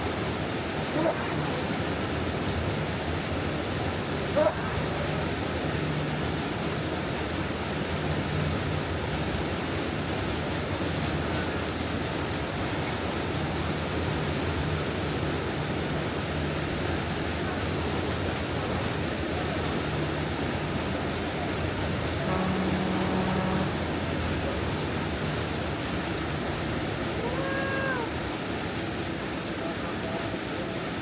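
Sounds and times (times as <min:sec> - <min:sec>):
low even hum: 0:00.0 - 0:27.3.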